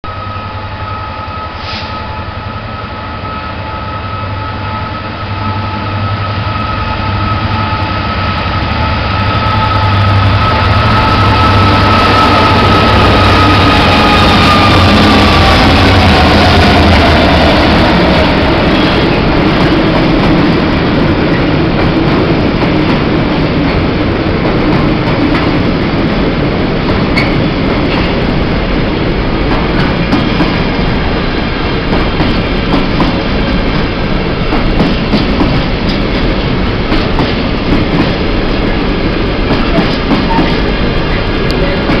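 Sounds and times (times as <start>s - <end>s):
freight train rumbling past: 0.0s - 42.0s.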